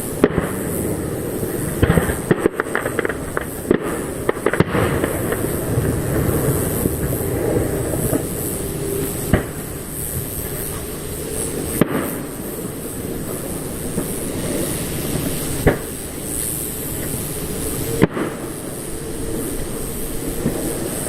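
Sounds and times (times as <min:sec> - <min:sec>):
rumble of firework shells: 0:00.0 - 0:21.0
sharp firework bangs: 0:00.0 - 0:21.0.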